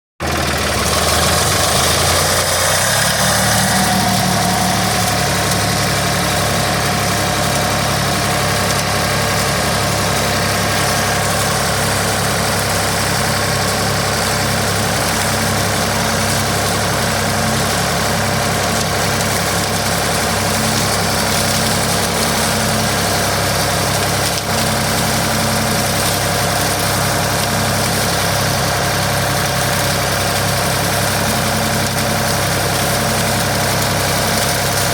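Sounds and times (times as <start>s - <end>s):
backhoe engine running: 0.2s - 34.9s.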